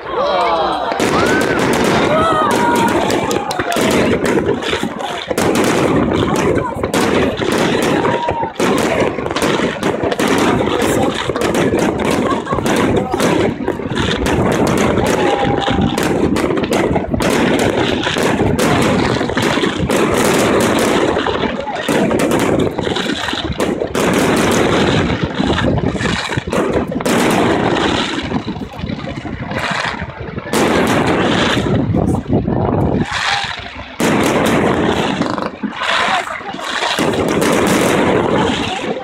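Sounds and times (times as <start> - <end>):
fireworks bursting and crackling: 0.0 - 39.0.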